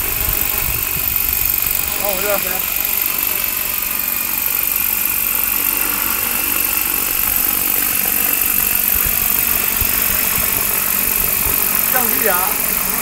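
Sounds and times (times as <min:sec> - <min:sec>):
helicopter engine and rotors: 0:00.0 - 0:13.0.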